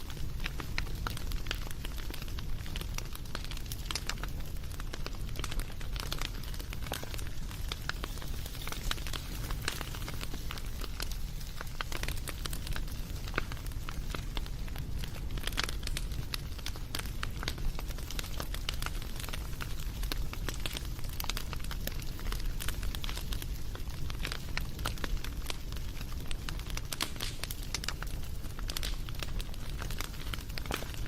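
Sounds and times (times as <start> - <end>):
low rumble of flames: 0.0 - 31.0
wood fire crackling: 0.0 - 31.0.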